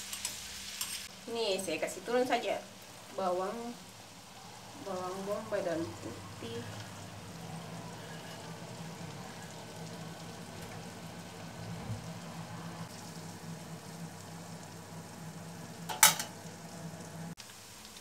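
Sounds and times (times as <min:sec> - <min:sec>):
onion and garlic sizzling in oil: 0:00.0 - 0:18.0.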